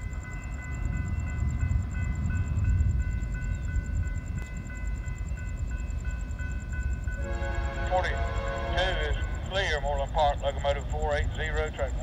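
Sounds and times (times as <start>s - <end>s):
distant freight train rumble: 0.0s - 12.0s
high ringing tones: 0.0s - 12.0s.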